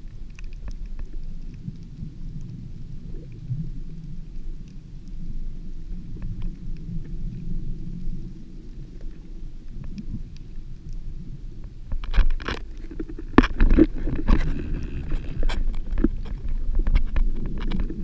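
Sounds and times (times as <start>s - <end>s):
faint clicks: 0.0s - 18.0s
underwater moving water rumble: 0.0s - 18.0s.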